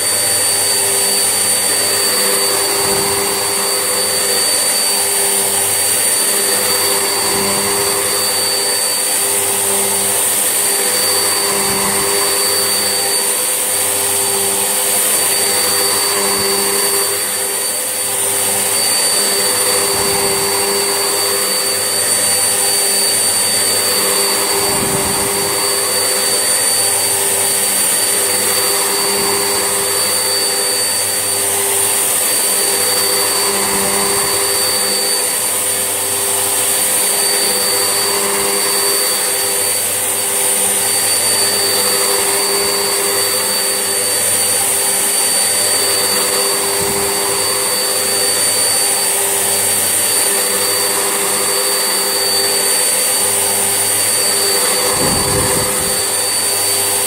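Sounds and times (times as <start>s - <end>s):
vacuum cleaner motor whining: 0.0s - 57.0s
vacuum rumbling over floor: 0.0s - 57.0s.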